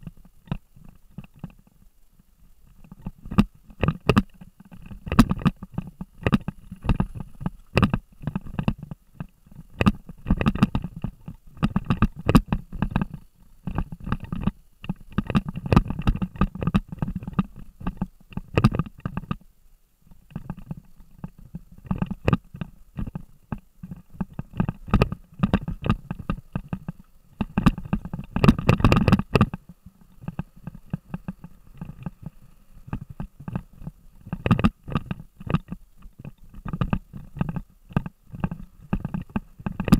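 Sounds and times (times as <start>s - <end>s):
camera knocks and rattles: 2.9s - 19.4s, 21.8s - 39.9s.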